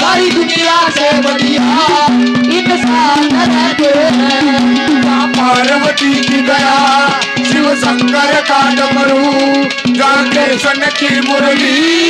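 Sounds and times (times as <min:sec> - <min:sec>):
bending melody line: 0:00.0 - 0:12.0
fast drum strokes: 0:00.0 - 0:12.0.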